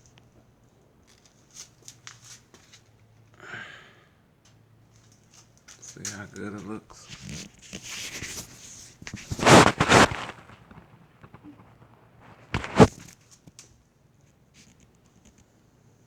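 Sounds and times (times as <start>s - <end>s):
rustling handling noise: 0.0s - 3.3s, 4.5s - 15.5s.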